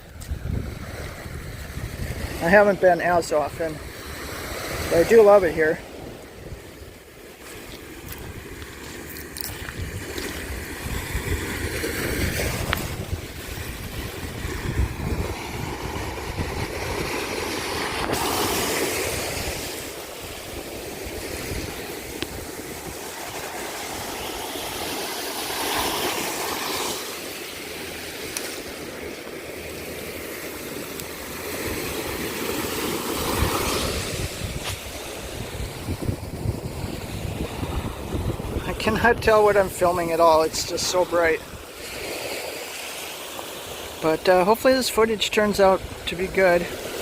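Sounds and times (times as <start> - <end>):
wind rumbling on microphone: 0.0 - 42.3
waves breaking on beach: 0.0 - 47.0.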